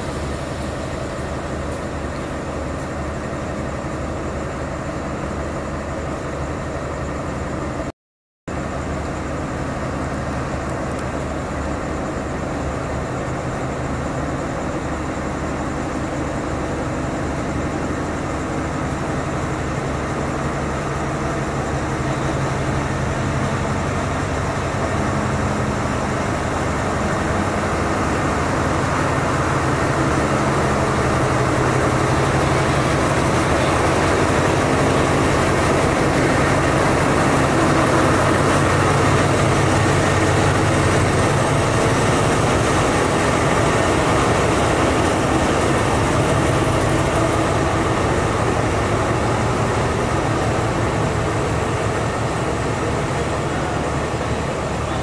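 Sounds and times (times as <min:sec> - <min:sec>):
diesel locomotive idling: 0:00.0 - 0:07.9, 0:08.5 - 0:55.0.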